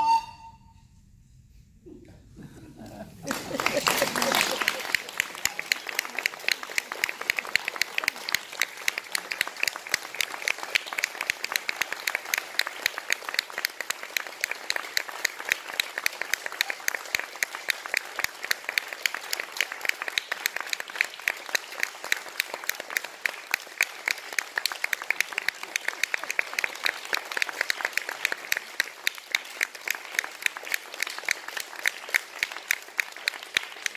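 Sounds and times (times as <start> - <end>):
audience applauding: 3.1 - 33.9.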